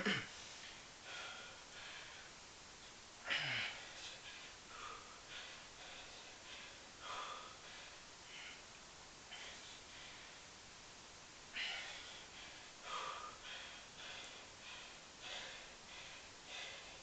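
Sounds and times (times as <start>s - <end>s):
man breathing hard: 0.3s - 2.5s, 3.2s - 10.6s, 11.4s - 17.0s.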